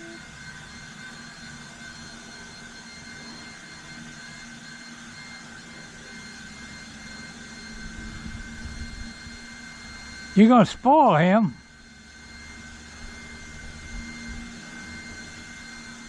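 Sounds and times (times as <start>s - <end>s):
low machine hum: 0.0s - 16.0s
machine whining: 0.0s - 16.0s.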